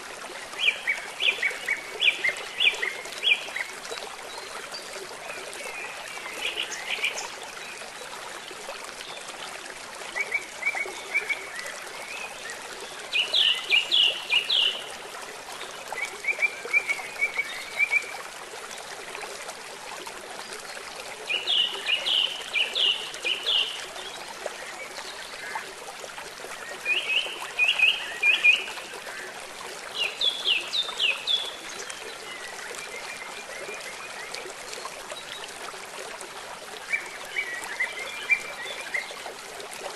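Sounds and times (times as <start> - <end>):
flowing river water: 0.0 - 39.9
rain: 0.0 - 39.9.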